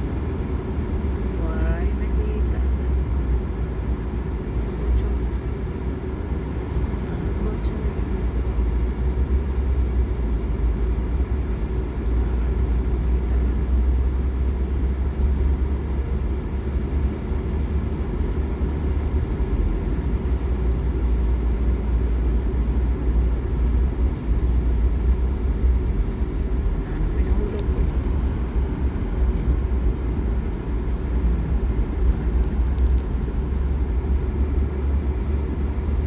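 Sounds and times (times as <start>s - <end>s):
car driving on road: 0.0s - 36.0s.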